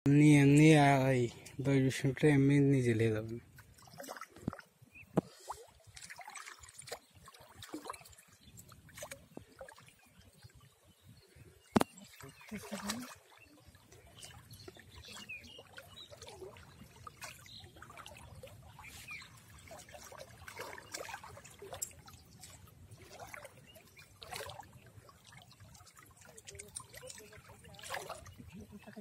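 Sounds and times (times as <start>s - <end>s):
water trickling and dripping: 0.4s - 29.0s
small water splashes: 3.0s - 29.0s.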